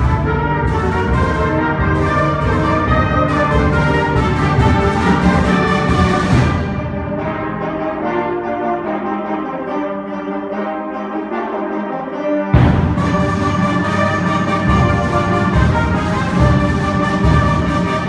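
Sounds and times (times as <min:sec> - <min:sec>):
concert band playing: 0:00.0 - 0:09.8, 0:12.5 - 0:18.0.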